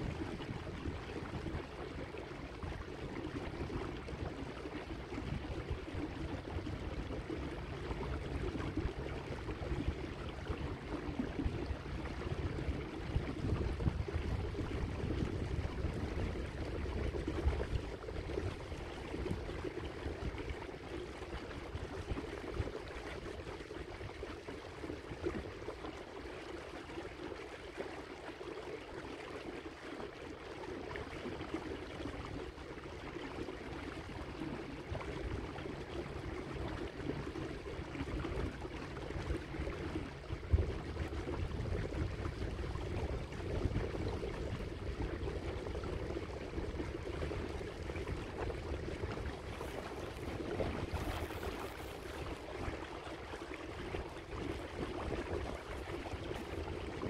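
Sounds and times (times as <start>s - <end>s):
wind rumble on microphone: 0.0s - 27.9s, 28.6s - 57.0s
water lapping along hull: 0.0s - 57.0s.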